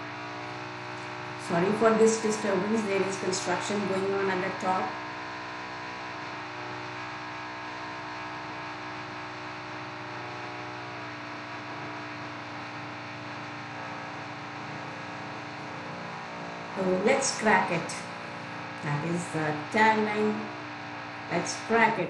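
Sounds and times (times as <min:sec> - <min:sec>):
construction machinery whirring: 0:00.0 - 0:22.0.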